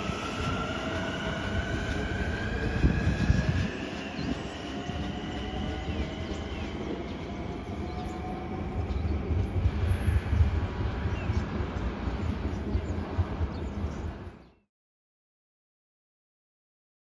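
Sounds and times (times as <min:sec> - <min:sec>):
train wheels rumbling: 0:00.0 - 0:14.5.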